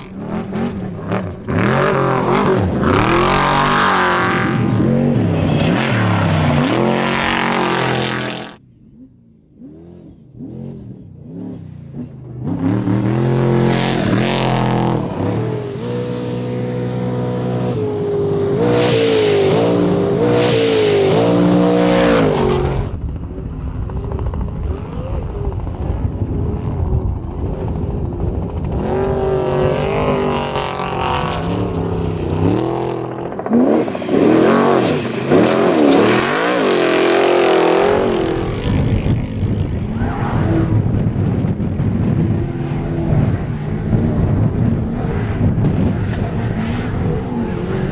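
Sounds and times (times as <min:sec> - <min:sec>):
race truck engines revving: 0:00.0 - 0:47.9.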